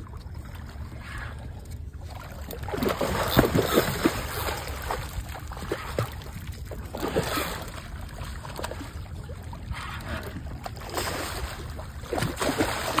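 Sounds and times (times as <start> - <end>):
steady low rumble: 0.0 - 13.0
water splashing beside a boat: 0.0 - 13.0.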